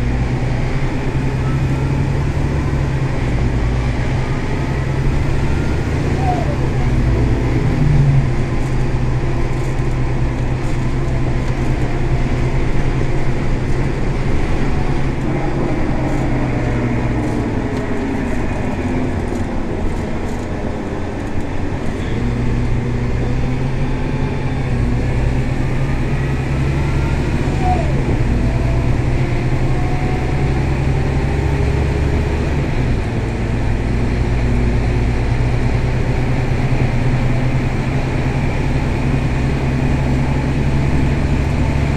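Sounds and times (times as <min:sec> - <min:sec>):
bus diesel engine droning: 0:00.0 - 0:41.9
road noise: 0:00.0 - 0:41.9.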